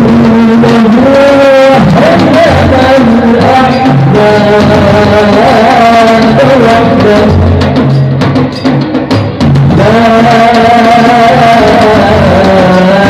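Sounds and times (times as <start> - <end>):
person singing: 0.0 - 7.9, 9.7 - 13.0
drum percussion: 0.0 - 13.0.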